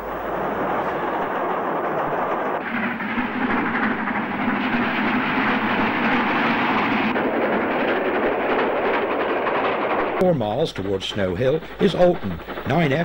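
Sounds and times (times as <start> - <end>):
steam locomotive exhaust rush: 0.0 - 13.0
wheel clatter on rails: 0.0 - 13.0.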